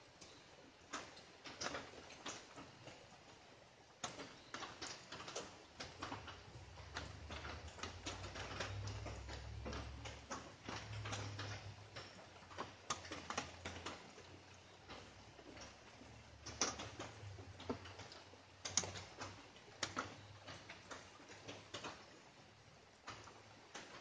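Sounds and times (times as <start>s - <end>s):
raindrops tapping: 0.1s - 24.0s.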